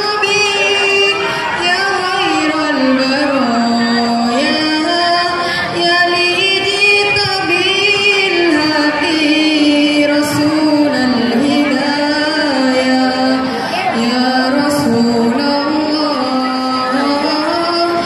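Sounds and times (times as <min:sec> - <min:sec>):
woman singing devotional chant: 0:00.0 - 0:18.0.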